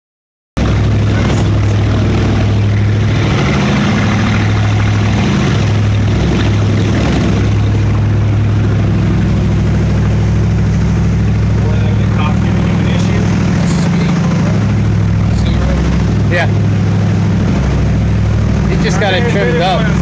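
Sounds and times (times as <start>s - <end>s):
boat engines droning: 0.6s - 20.0s.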